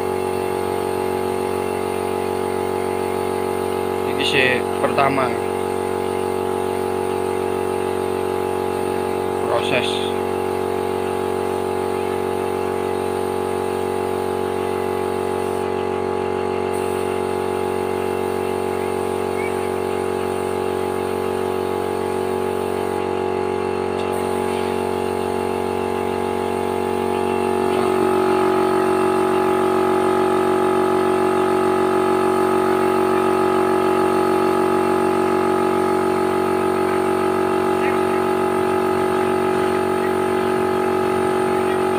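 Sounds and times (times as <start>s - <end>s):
machine motor humming: 0.0s - 41.9s.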